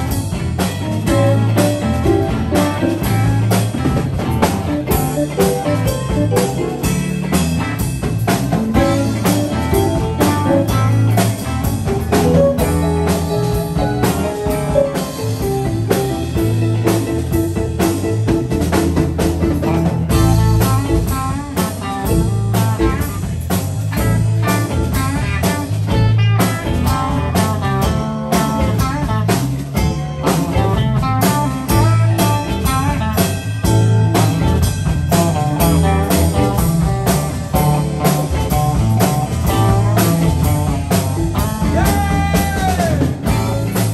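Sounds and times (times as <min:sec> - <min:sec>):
electric guitars: 0:00.0 - 0:43.9
steady drum beat: 0:00.0 - 0:43.9.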